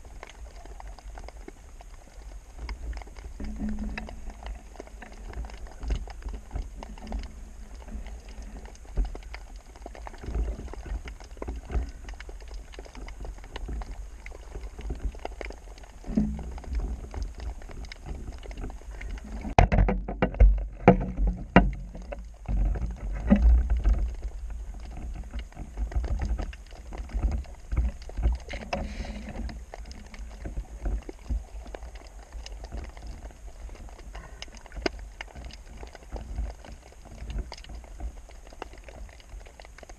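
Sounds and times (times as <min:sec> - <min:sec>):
muffled water sloshing: 0:00.0 - 0:39.9.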